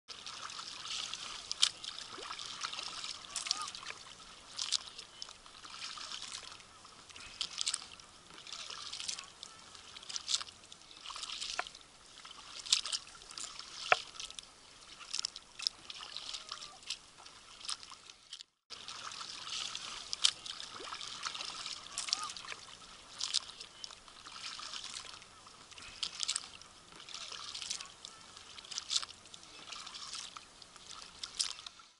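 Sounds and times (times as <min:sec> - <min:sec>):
kayak paddles splashing water: 0:00.1 - 0:31.9
water dripping off paddles: 0:00.1 - 0:31.9.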